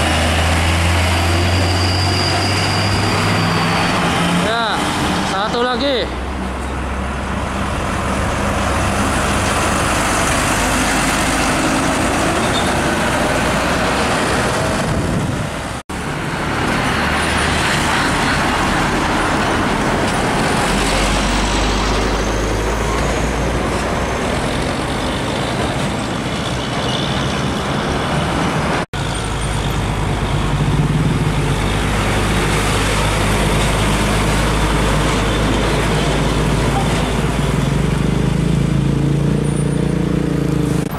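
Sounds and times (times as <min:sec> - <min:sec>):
diesel trucks passing: 0:00.0 - 0:40.9
road and traffic noise: 0:00.0 - 0:40.9.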